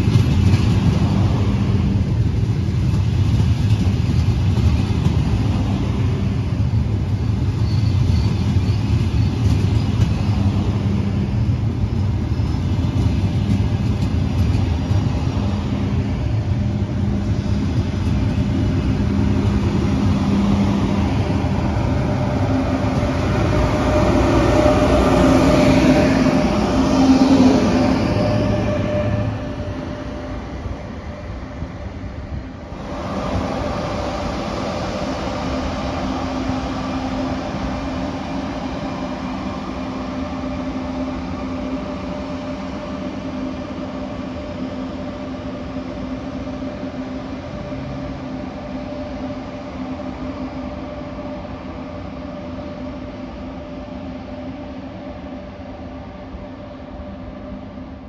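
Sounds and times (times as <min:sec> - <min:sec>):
electric train hum: 0:00.0 - 0:58.0.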